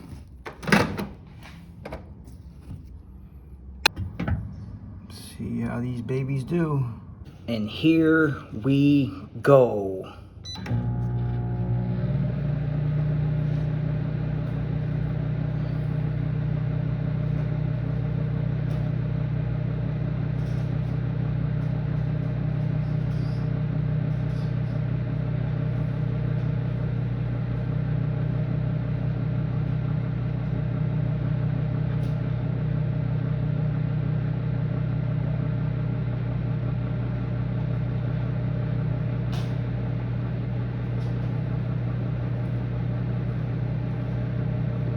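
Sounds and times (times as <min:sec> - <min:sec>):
microwave oven humming: 0:00.0 - 0:44.9.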